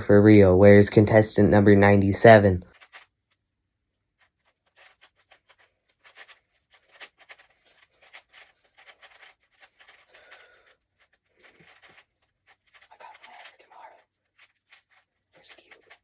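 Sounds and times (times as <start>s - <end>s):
small handling clicks and rubbing: 2.6s - 16.0s.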